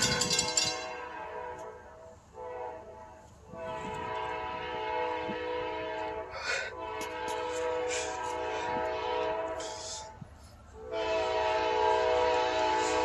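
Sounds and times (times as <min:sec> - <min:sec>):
locomotive air horn: 0:00.0 - 0:13.0.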